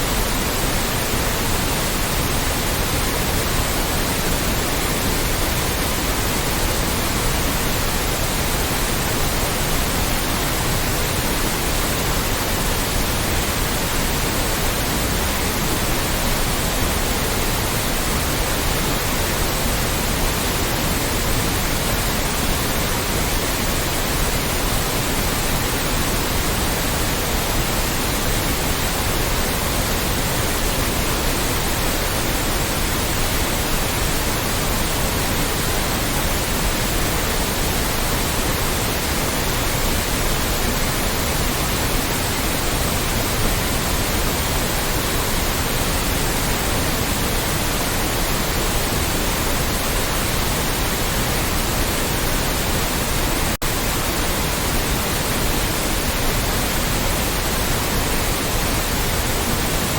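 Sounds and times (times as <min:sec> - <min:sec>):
loud white noise hiss: 0:00.0 - 0:59.9.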